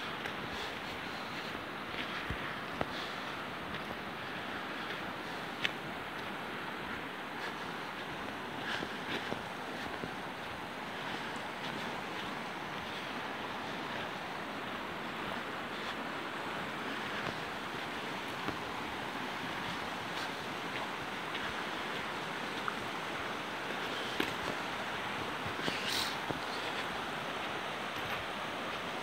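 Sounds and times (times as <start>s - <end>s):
river flowing over rocks: 0.0s - 29.0s.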